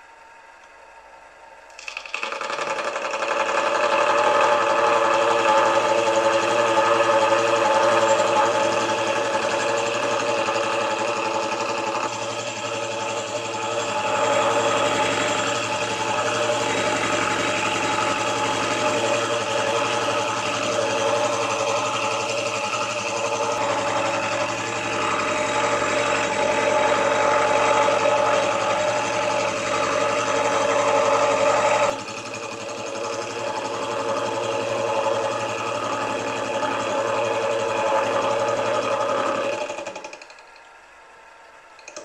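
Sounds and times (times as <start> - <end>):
milling machine cutting gear: 1.8 - 40.5.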